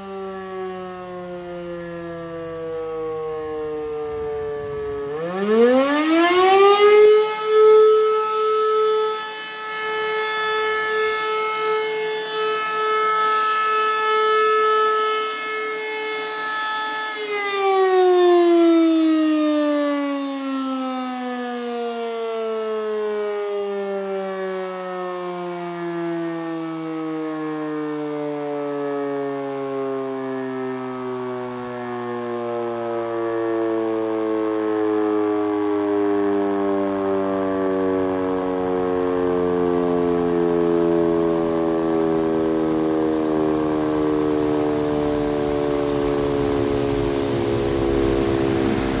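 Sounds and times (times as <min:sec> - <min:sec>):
siren winding down: 0:00.0 - 0:49.0.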